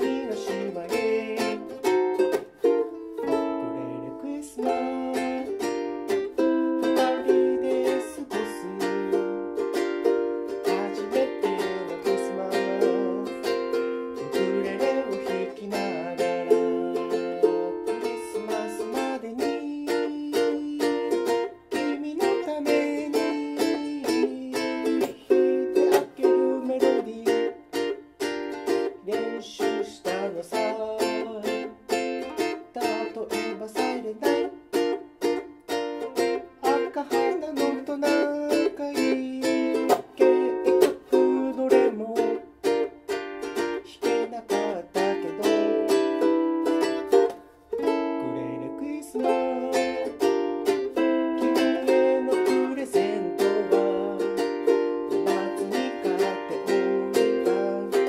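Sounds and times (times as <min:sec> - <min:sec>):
ukulele strumming: 0:00.0 - 0:58.0.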